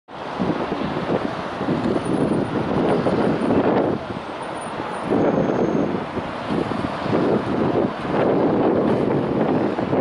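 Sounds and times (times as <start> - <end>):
city traffic rumble: 0.1 - 10.0
wind buffeting microphone: 0.1 - 10.0.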